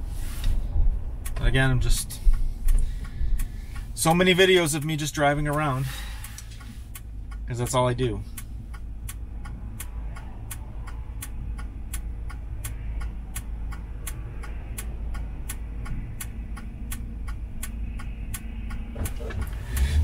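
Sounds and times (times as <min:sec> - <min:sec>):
car cabin hum: 0:00.0 - 0:20.0
turn signal ticking: 0:00.0 - 0:20.0.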